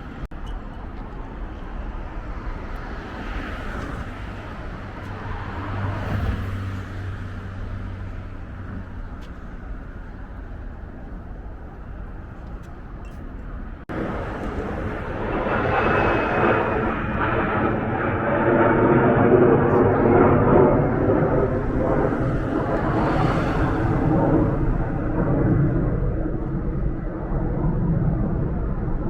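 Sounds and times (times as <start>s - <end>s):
road traffic going by: 0.0s - 18.5s, 19.8s - 25.2s
busy street ambience: 0.0s - 26.0s.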